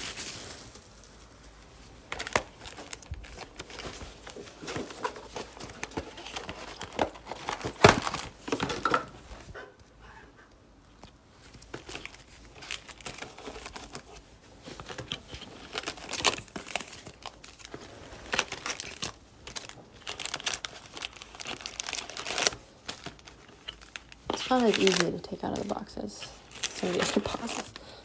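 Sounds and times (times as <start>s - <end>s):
wrapping tearing: 0.0s - 8.6s, 11.0s - 28.0s
plastic wrapping crinkling: 0.0s - 9.6s, 10.9s - 28.0s.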